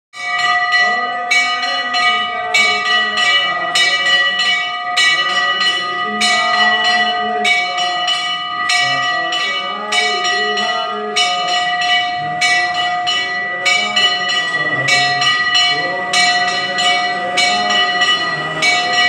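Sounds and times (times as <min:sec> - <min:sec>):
bell ringing: 0:00.2 - 0:19.0.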